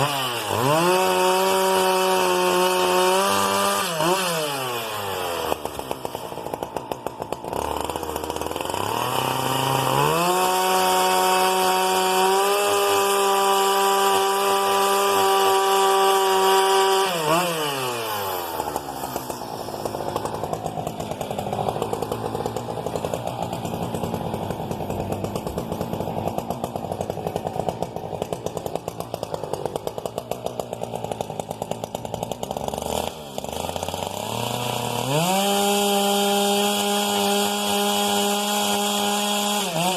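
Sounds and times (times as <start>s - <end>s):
chainsaw engine revving and idling: 0.0s - 39.9s.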